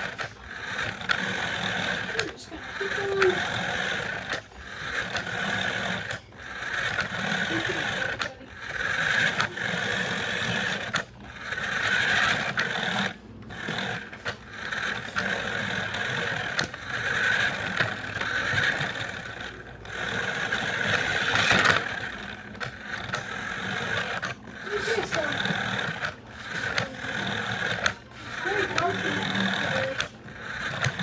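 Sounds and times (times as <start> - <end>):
toy car motor whining: 0.0 - 31.0.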